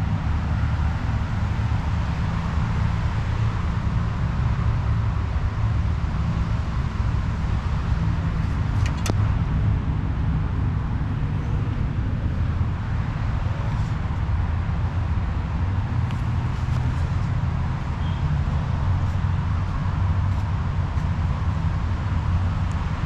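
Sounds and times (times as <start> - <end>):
distant road traffic rumble: 0.0 - 23.0.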